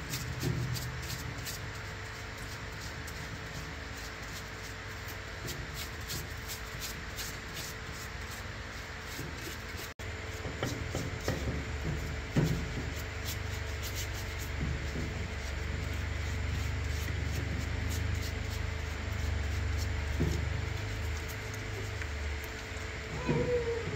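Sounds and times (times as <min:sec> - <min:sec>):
low steady hum: 0:00.0 - 0:23.9
scrubbing strokes: 0:00.0 - 0:23.9.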